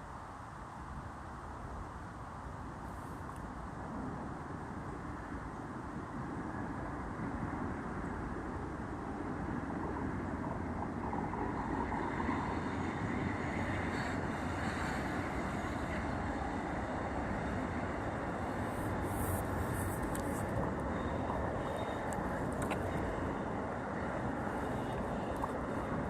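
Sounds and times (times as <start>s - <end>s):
wind buffeting microphone: 0.8s - 26.0s.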